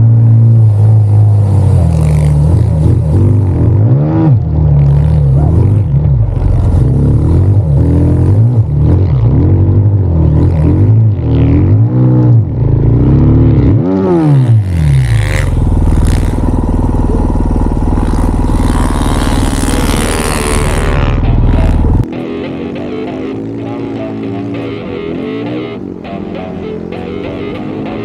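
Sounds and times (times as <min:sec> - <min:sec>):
snow bike engine revving: 0:00.0 - 0:28.0.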